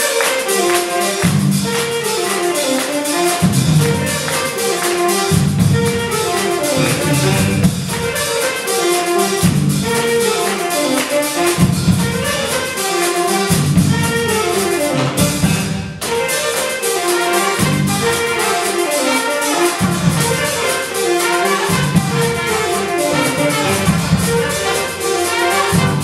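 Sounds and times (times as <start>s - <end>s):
jazz big band playing: 0.0s - 26.0s.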